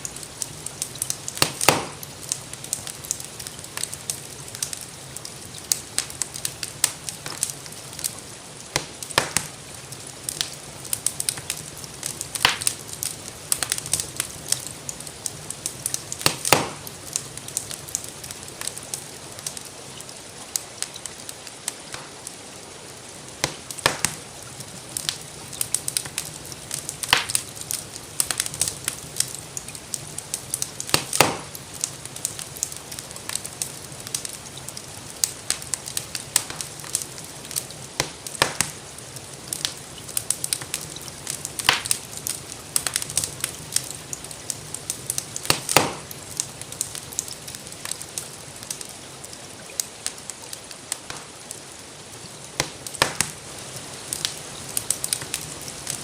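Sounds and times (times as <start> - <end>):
gentle rainfall hiss: 0.0 - 56.0
wood fire crackling: 0.0 - 56.0.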